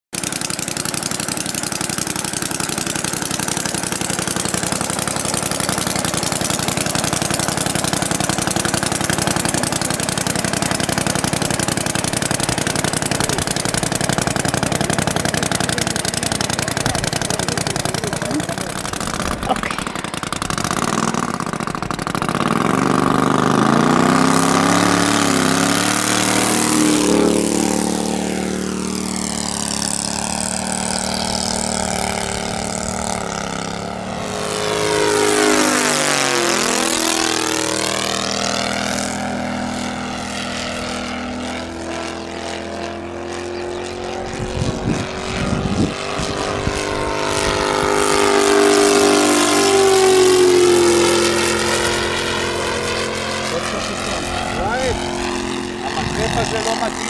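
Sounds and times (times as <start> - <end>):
model plane propeller drone: 0.2 - 57.0.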